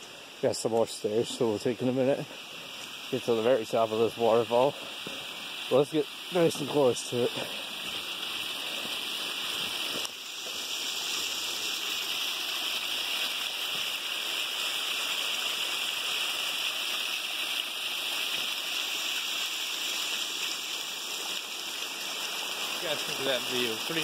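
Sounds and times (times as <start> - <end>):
waterfall rushing: 1.0 - 24.0.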